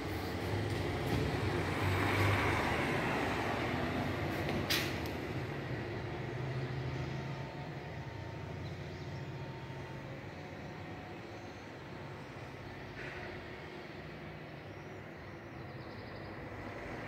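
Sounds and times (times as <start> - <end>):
traffic engine hum and road noise: 0.0 - 17.0.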